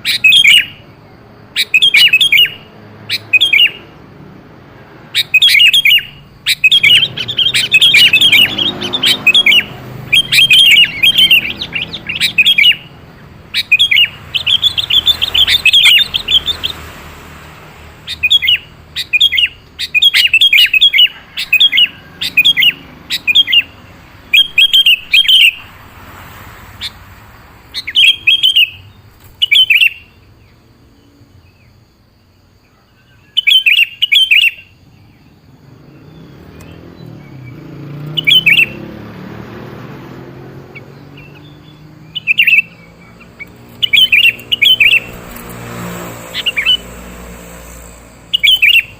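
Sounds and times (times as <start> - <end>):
bulbul singing rapid chirps: 0.0 - 48.9.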